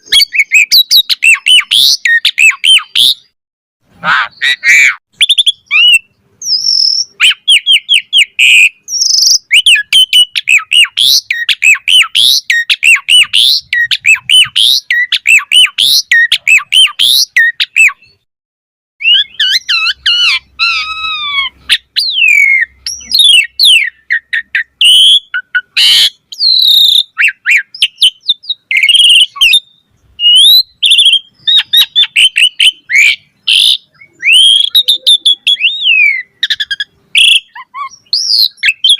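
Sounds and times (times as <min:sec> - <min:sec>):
starling singing: 0:00.0 - 0:03.4, 0:04.0 - 0:18.2, 0:19.0 - 0:38.9.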